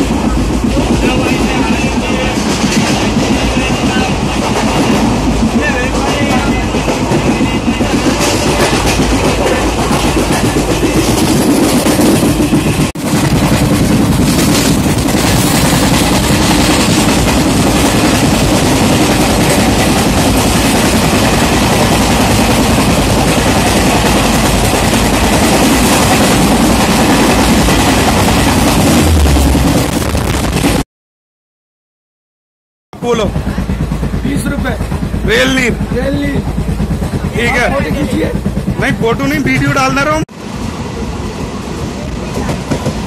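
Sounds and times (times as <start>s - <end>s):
passenger coaches passing close: 0.0s - 30.1s, 33.0s - 43.0s
train wheels running on rails: 0.0s - 30.8s, 33.0s - 43.0s.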